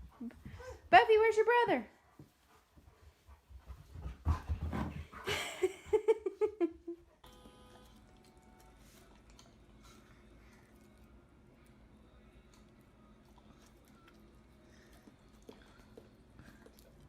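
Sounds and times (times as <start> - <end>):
faint background hum: 0.0 - 17.0.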